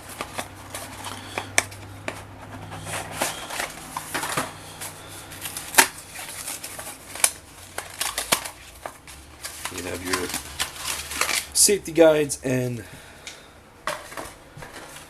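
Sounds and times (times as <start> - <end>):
paper and cardboard rustling: 0.0 - 12.1, 13.8 - 15.0.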